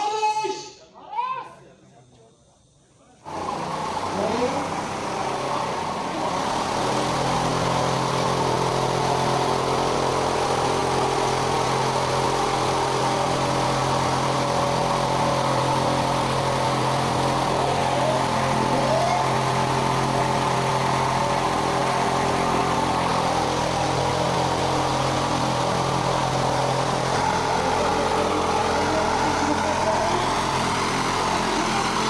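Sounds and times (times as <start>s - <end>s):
engine drone: 3.2s - 32.0s.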